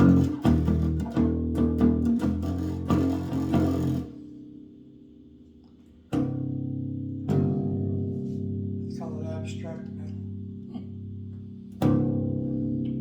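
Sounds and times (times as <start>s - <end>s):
bass guitar notes plucked: 0.0s - 5.1s, 6.1s - 13.0s.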